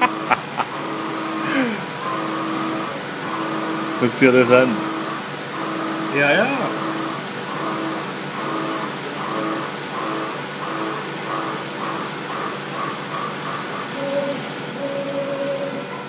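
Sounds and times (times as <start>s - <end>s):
milling machine cutting steel: 0.0s - 16.0s.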